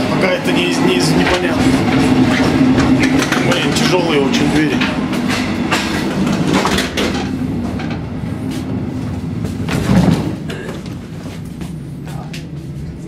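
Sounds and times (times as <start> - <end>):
train door closing: 0.0 - 11.5
moving train rumble: 0.0 - 13.0.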